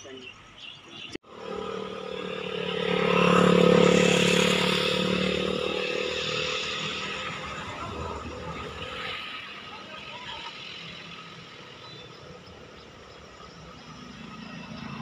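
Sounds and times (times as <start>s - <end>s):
vehicle engine passing: 1.3s - 15.0s.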